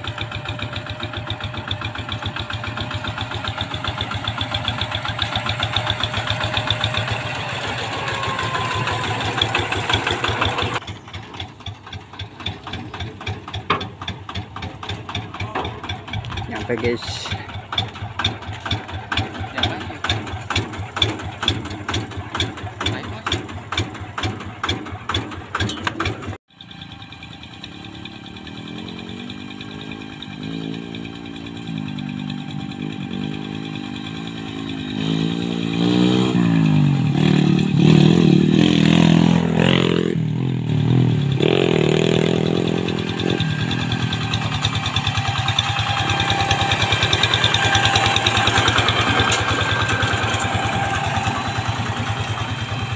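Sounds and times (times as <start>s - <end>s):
engine revving: 0.0s - 11.6s, 12.2s - 52.9s
tractor diesel engine chugging: 0.0s - 52.9s.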